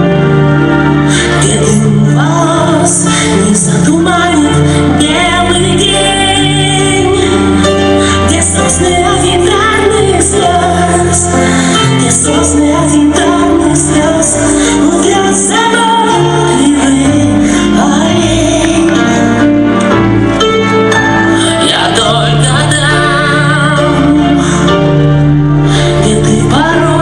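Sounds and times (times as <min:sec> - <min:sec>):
woman singing over low notes: 0:01.2 - 0:19.3, 0:21.4 - 0:25.0, 0:25.7 - 0:27.0.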